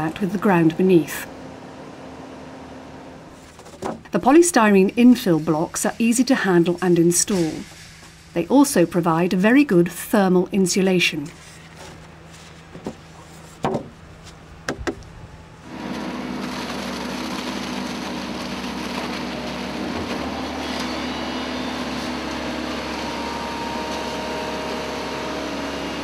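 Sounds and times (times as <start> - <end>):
diesel machinery running: 0.0 - 10.0, 11.4 - 26.0.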